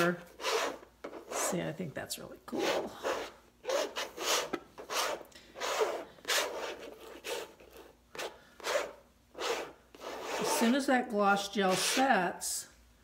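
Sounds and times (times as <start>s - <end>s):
palette knife scraping canvas: 0.0s - 1.6s, 2.5s - 10.8s, 11.6s - 12.2s.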